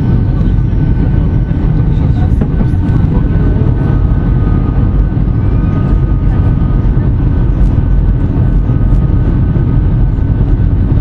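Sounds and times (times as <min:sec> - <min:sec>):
airliner engine and airflow rumble: 0:00.0 - 0:11.0
faint constant whine: 0:00.0 - 0:11.0.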